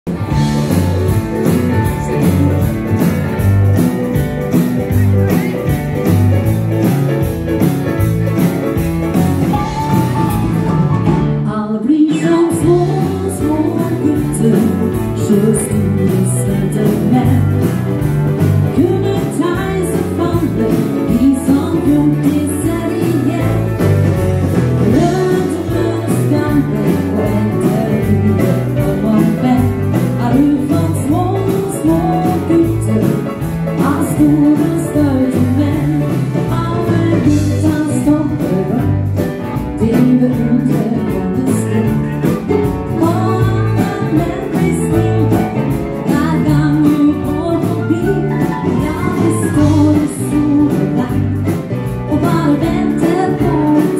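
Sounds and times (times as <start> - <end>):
live dance band playing: 0.1 - 53.9
woman singing: 0.3 - 3.4, 11.4 - 17.8, 18.6 - 24.2, 24.8 - 53.9.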